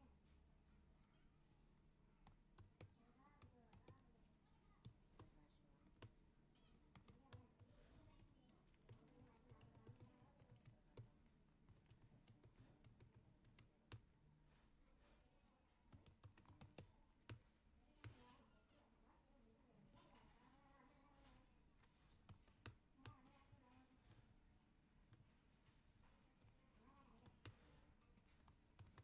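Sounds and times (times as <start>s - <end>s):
faint keyboard typing: 0.3s - 18.8s, 19.7s - 29.0s.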